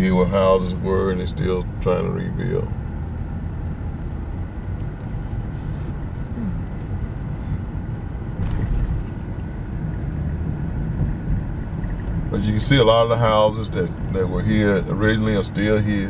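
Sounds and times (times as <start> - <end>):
engine and road rumble: 0.0 - 16.0.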